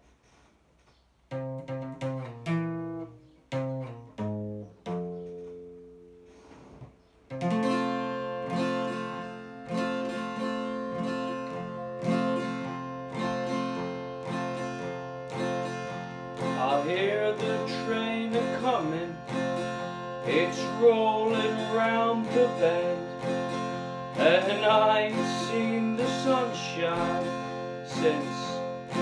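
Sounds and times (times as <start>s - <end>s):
acoustic guitar: 0.0s - 29.0s.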